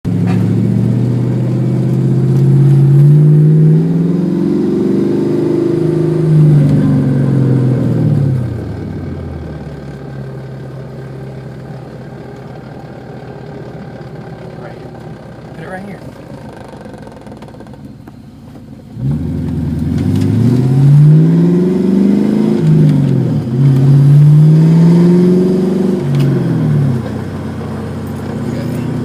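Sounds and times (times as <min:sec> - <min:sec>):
car engine revving: 0:00.1 - 0:29.0.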